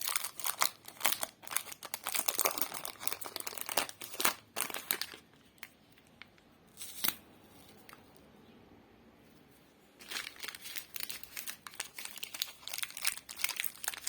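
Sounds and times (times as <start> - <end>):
plastic wrapper crinkling: 0.0 - 8.1, 10.0 - 14.0.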